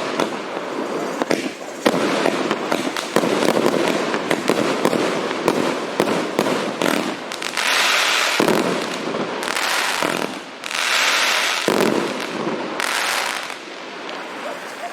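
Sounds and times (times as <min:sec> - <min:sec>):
fireworks hissing crackle: 0:00.0 - 0:14.9
fireworks sharp shots: 0:00.0 - 0:14.9.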